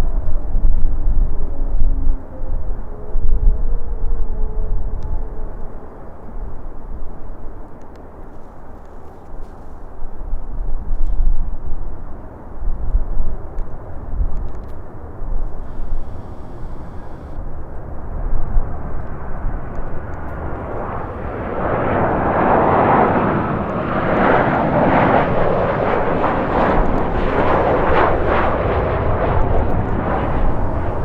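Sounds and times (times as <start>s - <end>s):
jet airliner passing: 0.0s - 31.0s
wind rumble on microphone: 0.0s - 31.0s.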